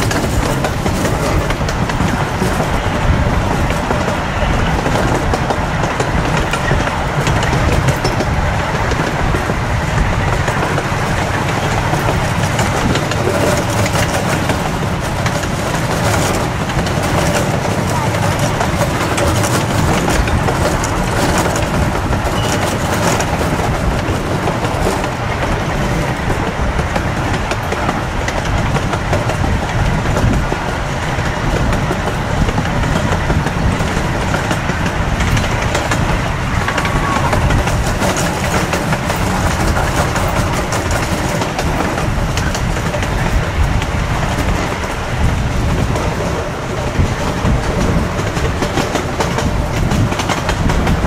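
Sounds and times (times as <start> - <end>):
amusement park train rumbling on rails: 0.0 - 51.0.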